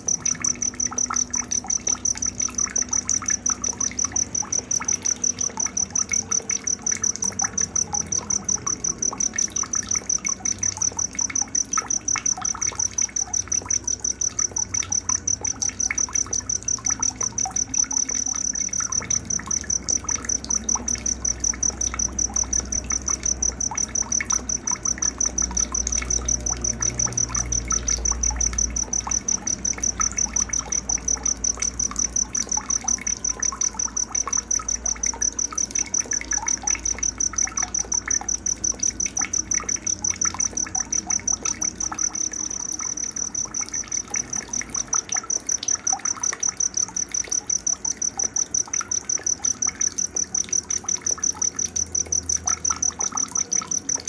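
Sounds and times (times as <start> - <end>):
cricket chirping: 0.0 - 54.0
faint trickling water: 0.0 - 54.0.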